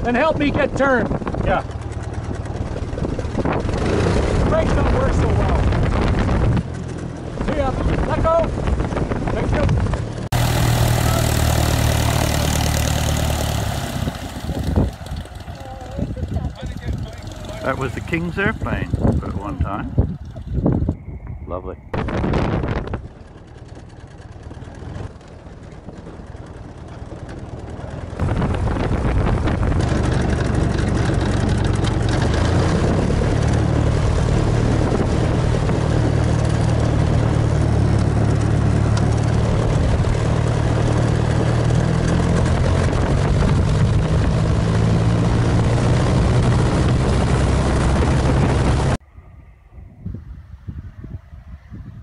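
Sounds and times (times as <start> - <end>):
propeller plane engine: 0.0 - 52.0
wind noise: 0.0 - 52.0.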